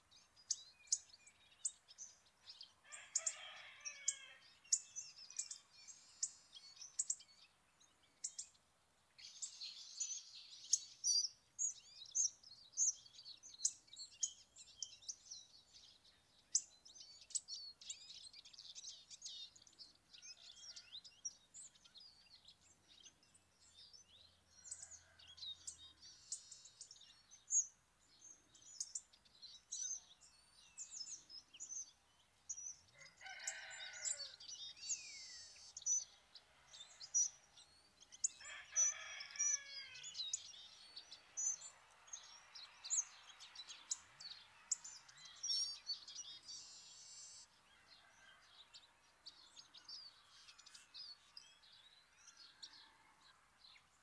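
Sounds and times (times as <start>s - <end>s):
longer lower bird calls: 0.0s - 8.6s, 9.2s - 54.0s
small birds chirping: 0.0s - 54.0s.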